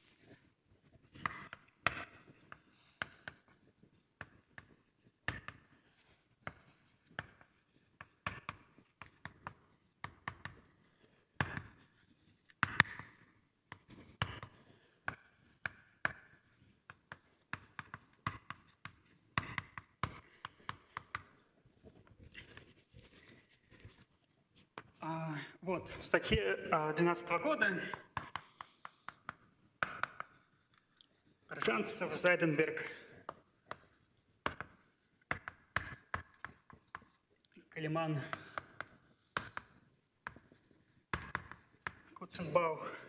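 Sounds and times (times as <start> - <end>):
writing on a board: 0.0 - 25.0, 25.8 - 43.0.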